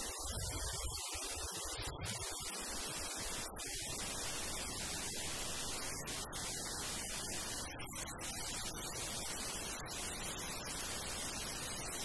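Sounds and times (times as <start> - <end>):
steady static hiss: 0.0 - 12.0.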